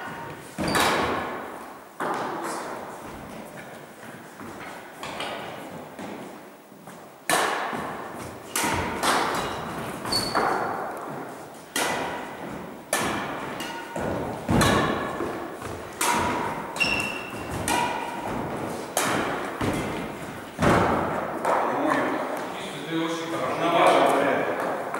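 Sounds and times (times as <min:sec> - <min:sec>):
rackets hitting shuttlecock: 0:00.0 - 0:03.8, 0:07.2 - 0:22.5, 0:23.8 - 0:24.9.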